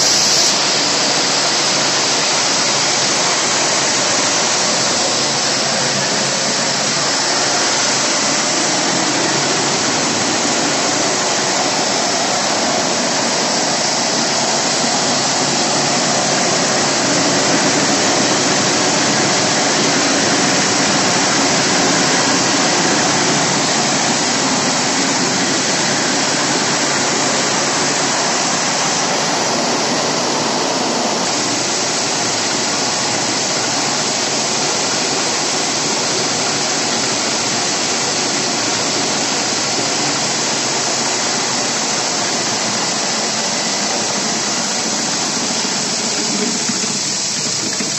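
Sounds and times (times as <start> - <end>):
corn thresher rushing noise: 0.0 - 47.9.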